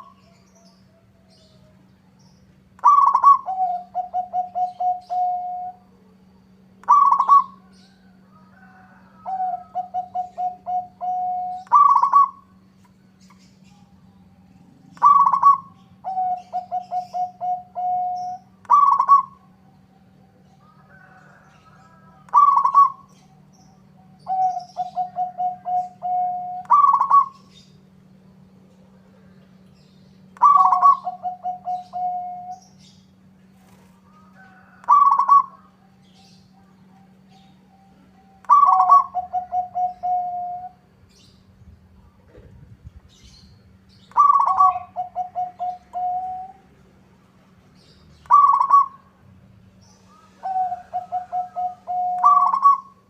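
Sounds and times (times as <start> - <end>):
dove cooing: 0.0 - 1.9, 2.7 - 27.8, 30.2 - 41.2, 42.2 - 46.8, 47.8 - 53.0
faint low hum: 0.0 - 53.0.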